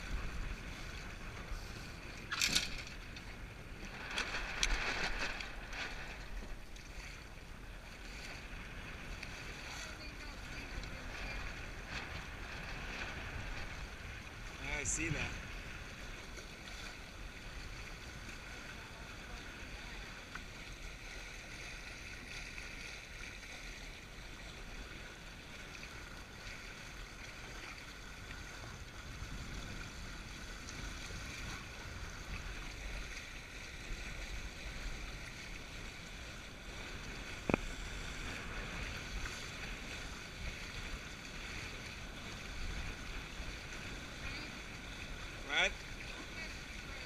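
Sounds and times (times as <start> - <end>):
water washing along boat hulls: 0.0 - 47.0.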